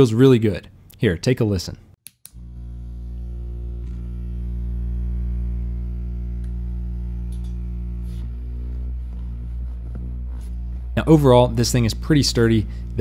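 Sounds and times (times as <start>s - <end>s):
massage motor humming: 2.3s - 13.0s.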